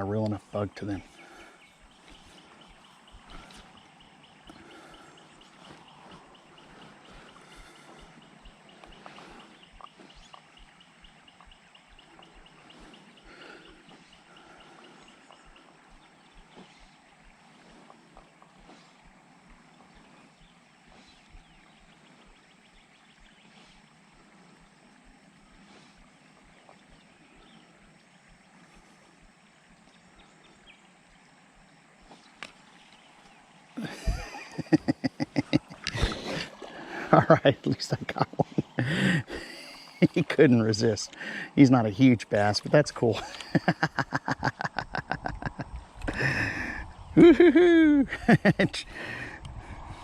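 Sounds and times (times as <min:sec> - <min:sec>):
faint outdoor background noise: 0:00.0 - 0:50.0.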